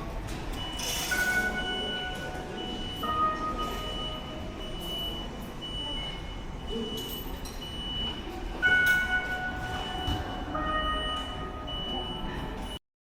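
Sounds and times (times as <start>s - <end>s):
electronic beep tones: 0.6s - 12.8s.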